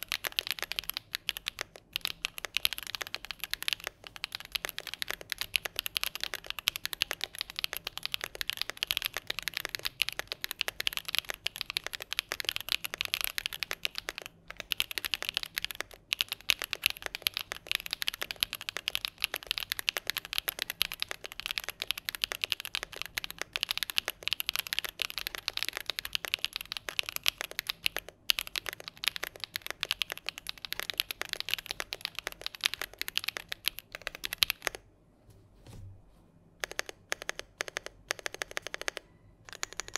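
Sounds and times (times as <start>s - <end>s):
fast typing on mechanical keyboard: 0.0s - 34.8s, 36.6s - 39.9s.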